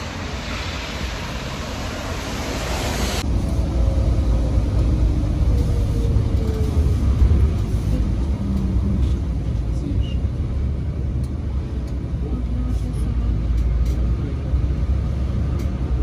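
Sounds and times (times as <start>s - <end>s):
bus engine rumble: 0.0s - 16.0s
traffic on wet street: 0.0s - 16.0s.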